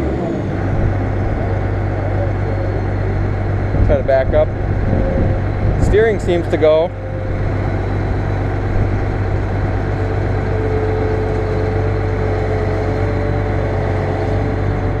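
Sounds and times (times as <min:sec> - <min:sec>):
combine diesel engine running: 0:00.0 - 0:15.0
high whine: 0:00.0 - 0:15.0.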